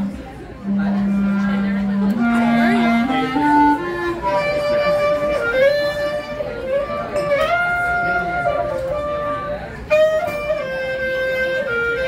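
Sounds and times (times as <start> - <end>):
clarinet melody: 0.0 - 12.0
small band playing: 0.0 - 12.0.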